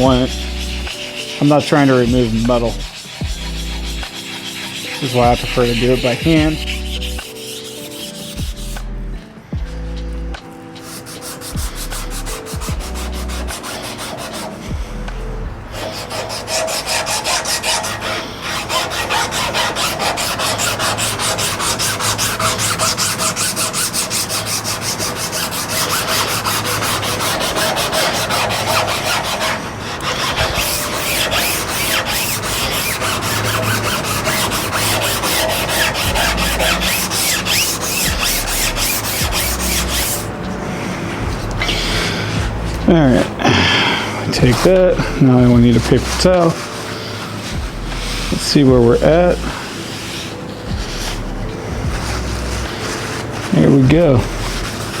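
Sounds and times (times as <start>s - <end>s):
sandpaper scrubbing rusty metal: 0.0s - 9.2s, 10.0s - 43.3s, 44.2s - 55.0s.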